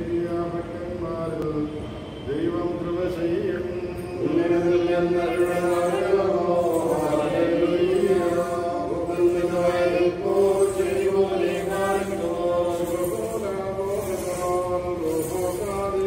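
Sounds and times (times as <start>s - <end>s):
voices chanting a sung prayer: 0.0s - 16.0s.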